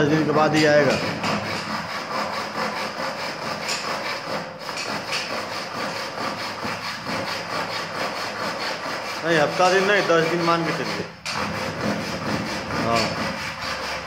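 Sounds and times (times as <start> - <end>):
handsaw cutting wood: 0.0 - 14.0.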